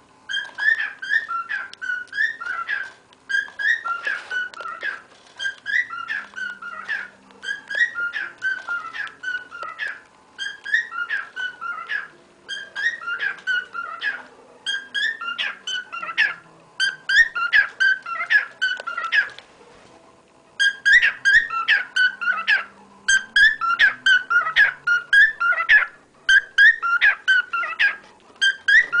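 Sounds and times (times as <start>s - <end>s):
cockatiel whistling: 0.3s - 19.4s, 20.6s - 29.0s.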